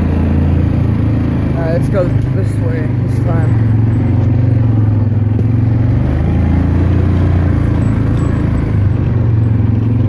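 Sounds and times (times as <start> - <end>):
four-wheeler engine running: 0.0 - 10.0.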